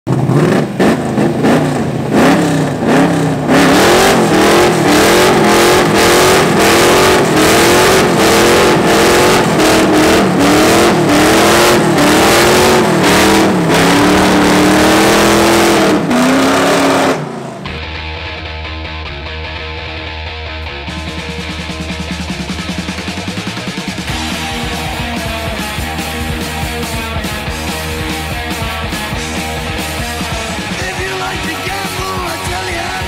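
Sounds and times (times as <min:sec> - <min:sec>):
car engine revving: 0:00.0 - 0:17.9, 0:20.9 - 0:33.0.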